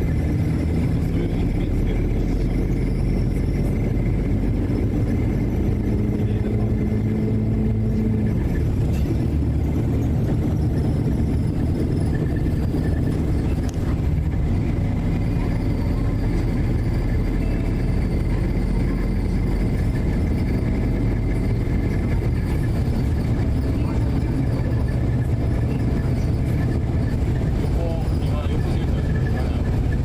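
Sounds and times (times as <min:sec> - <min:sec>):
low hum: 0:00.0 - 0:30.0
vehicle engine rumble: 0:00.0 - 0:30.0.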